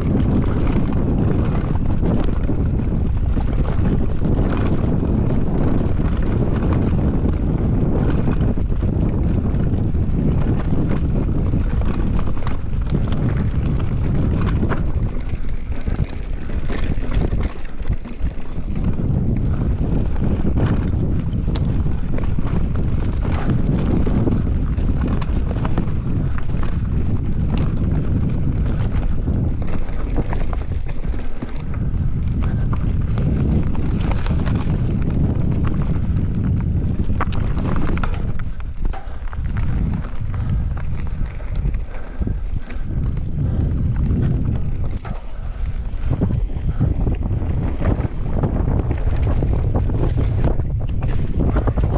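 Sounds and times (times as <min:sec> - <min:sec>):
bike rattling over bumps: 0:00.0 - 0:51.9
bike tyre noise: 0:00.0 - 0:51.9
wind rush on microphone: 0:00.0 - 0:51.9.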